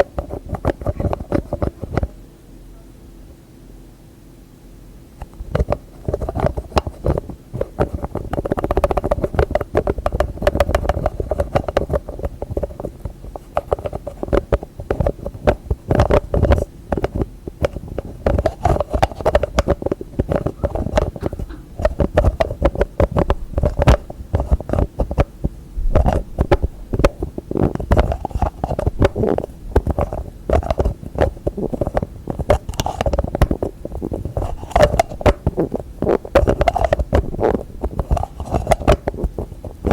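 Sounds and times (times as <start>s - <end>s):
fingers tapping on hard objects: 0.0s - 2.1s, 5.5s - 39.9s.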